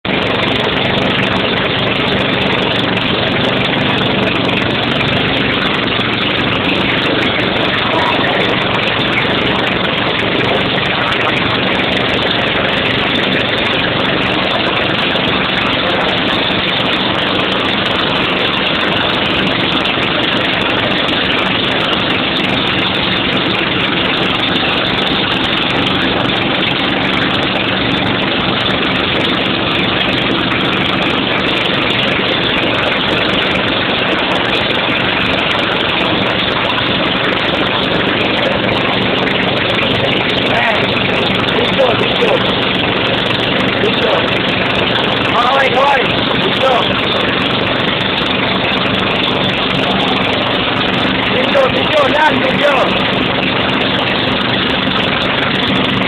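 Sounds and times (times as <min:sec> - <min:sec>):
engine running: 0:00.0 - 0:56.0
loud rushing noise: 0:00.0 - 0:56.0.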